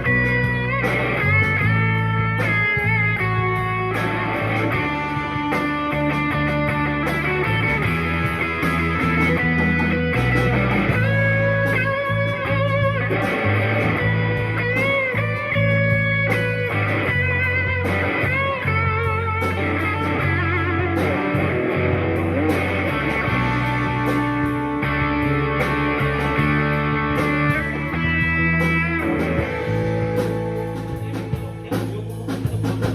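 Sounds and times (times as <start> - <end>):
electric guitar melody: 0.0 - 32.9
low bass notes: 0.0 - 32.9.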